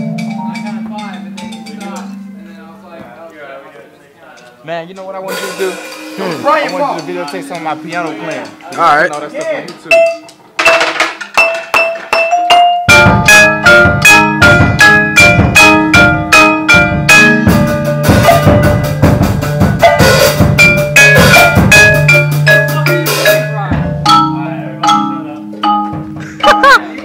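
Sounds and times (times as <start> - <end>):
marimba-like mallet percussion: 0.0 - 2.8, 5.3 - 27.0.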